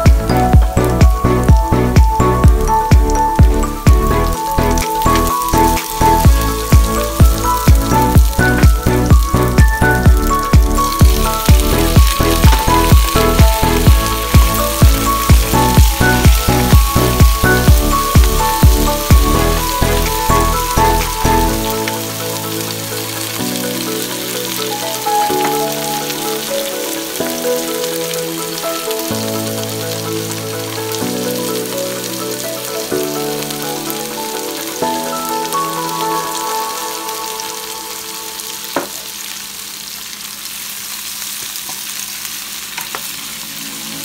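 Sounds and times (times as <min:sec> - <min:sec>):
soft background music: 0:00.0 - 0:39.4, 0:43.0 - 0:44.0
vegetables sizzling in oil: 0:00.0 - 0:44.0.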